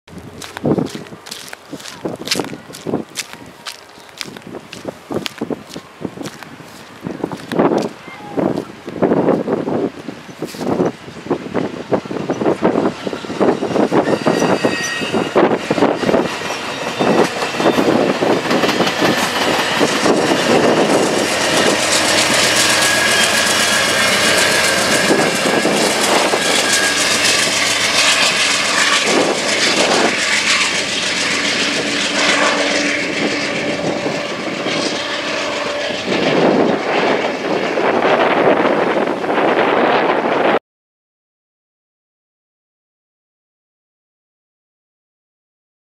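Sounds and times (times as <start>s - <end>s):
diesel locomotive engine drone: 0.1s - 40.6s
train cars rumbling on rails: 0.1s - 40.6s.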